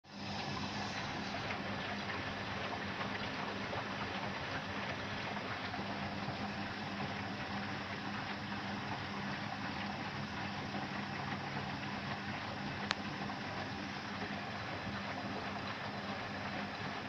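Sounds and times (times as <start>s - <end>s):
washing machine hum: 0.0s - 17.0s
water sloshing in washing machine: 0.0s - 17.0s.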